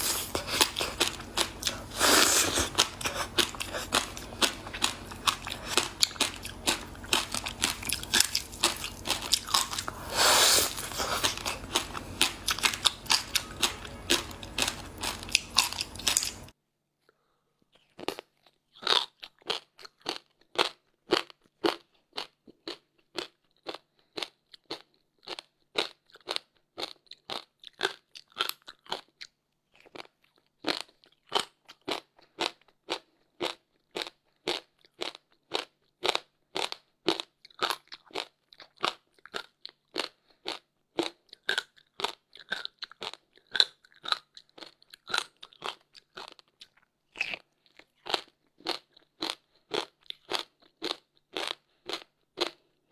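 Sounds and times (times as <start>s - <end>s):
person chewing crunchy ice: 0.0s - 16.5s, 18.0s - 52.7s.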